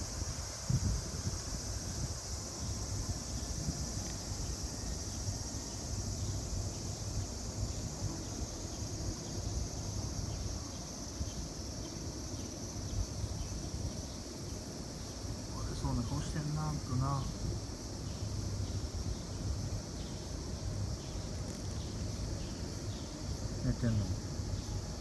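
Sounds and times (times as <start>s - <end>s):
cicadas droning: 0.0s - 25.0s.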